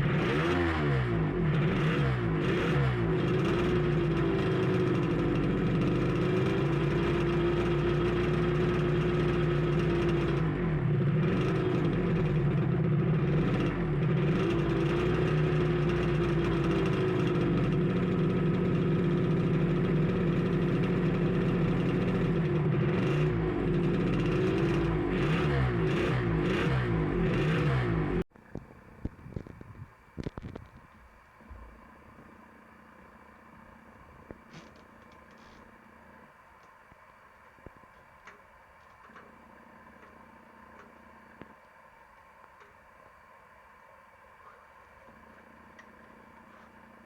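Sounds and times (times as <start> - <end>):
two-stroke engine idling: 0.0 - 47.0.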